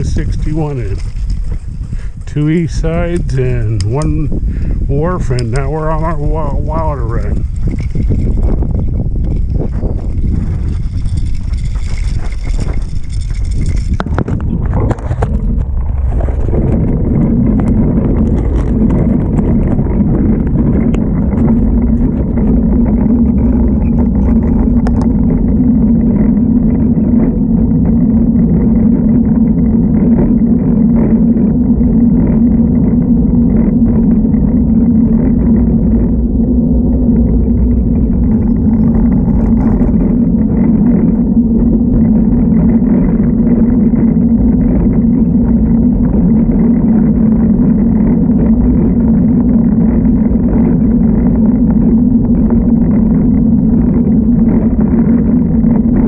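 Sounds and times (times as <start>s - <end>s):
bicycle riding on pavement: 0.0s - 56.0s
constant low hum: 0.0s - 56.0s.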